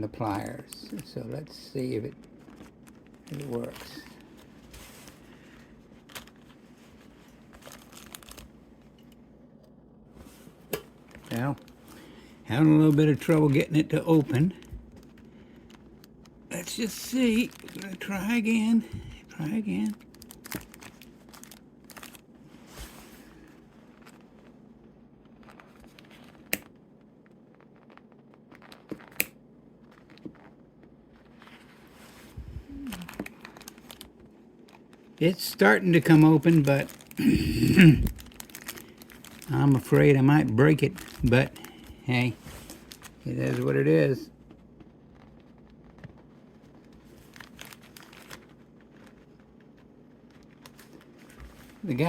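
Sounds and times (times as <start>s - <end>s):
plastic bag crinkling: 0.2s - 9.1s, 10.3s - 52.0s.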